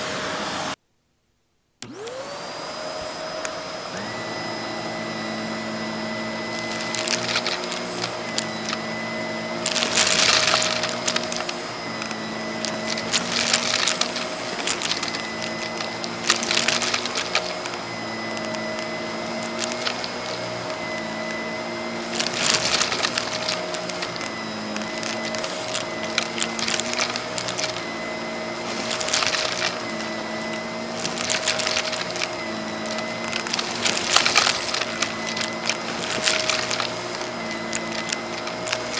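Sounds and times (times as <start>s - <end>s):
vacuum cleaner running: 0.0s - 0.8s, 1.8s - 38.9s
puzzle pieces rattling through hose: 6.5s - 21.3s, 22.0s - 38.9s.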